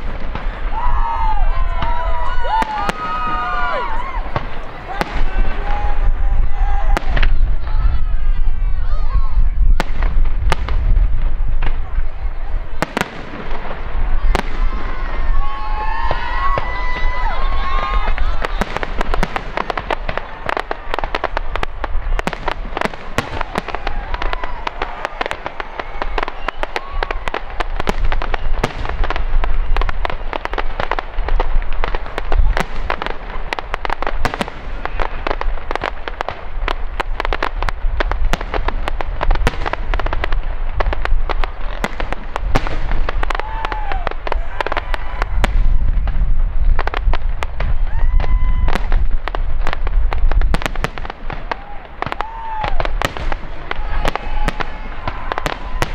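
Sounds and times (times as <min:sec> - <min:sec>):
fireworks bangs and crackling: 0:00.0 - 0:55.9
low fireworks booms: 0:00.0 - 0:55.9.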